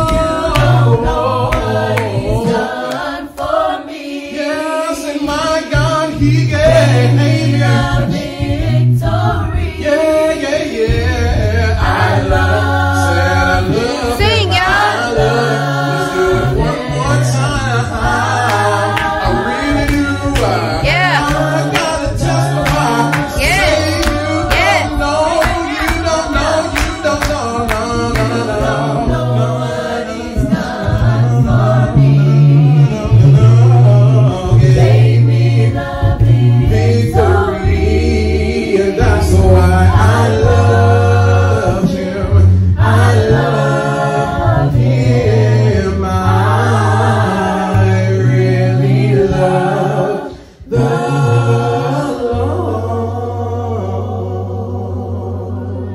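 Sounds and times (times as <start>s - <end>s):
low bass voice singing: 0.0s - 2.8s, 5.0s - 55.9s
a cappella choir singing: 0.0s - 55.9s.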